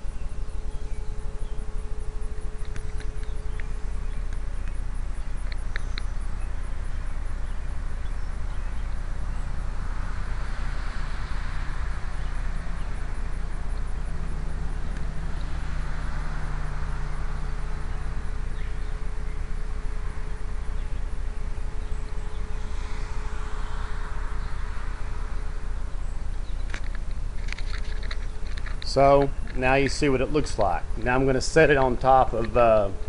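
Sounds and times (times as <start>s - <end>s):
faint steady hum: 0.0s - 33.0s
low rumble and hiss: 0.0s - 33.0s.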